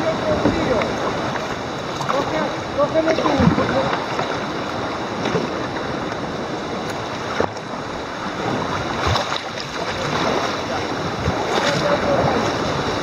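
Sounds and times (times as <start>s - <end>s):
short water splashes: 0.0s - 6.2s, 6.9s - 13.0s
surf breaking on rocks: 0.0s - 13.0s
wind noise on microphone: 0.0s - 13.0s.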